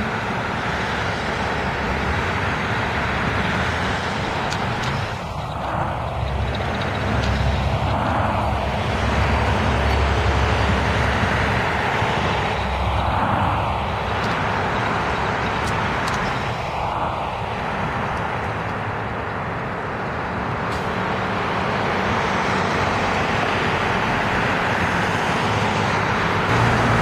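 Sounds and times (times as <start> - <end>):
bus driving away: 0.0 - 27.0
cars passing by: 0.0 - 27.0.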